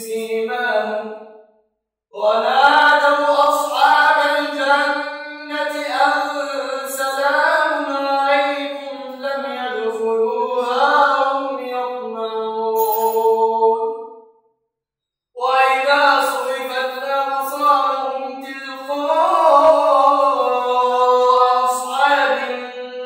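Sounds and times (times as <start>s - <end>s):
man chanting melodically: 0.0s - 1.1s, 2.2s - 13.9s, 15.4s - 23.0s.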